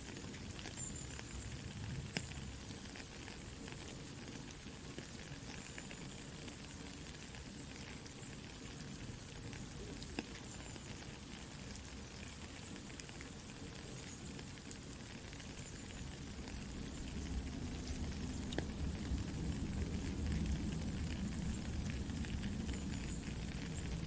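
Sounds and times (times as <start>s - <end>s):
campfire crackling: 0.0s - 24.0s
soft steady rain: 0.0s - 24.0s.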